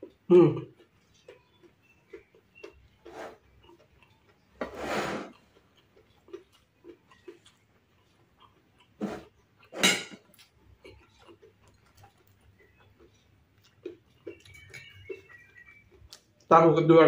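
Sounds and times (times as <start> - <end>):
person chewing crispy food: 0.0 - 4.6, 5.3 - 16.5.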